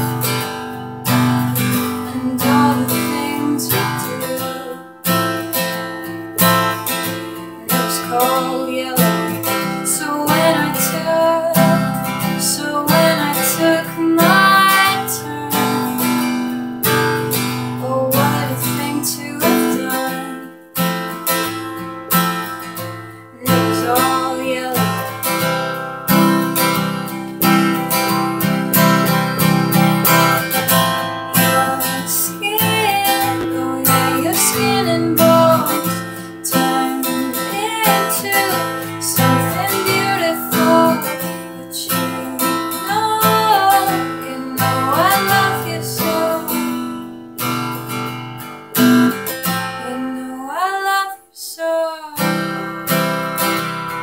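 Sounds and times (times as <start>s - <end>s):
woman singing: 0.0s - 20.8s, 22.4s - 47.0s, 49.5s - 53.0s
acoustic guitar strumming: 0.0s - 51.3s, 52.2s - 54.0s.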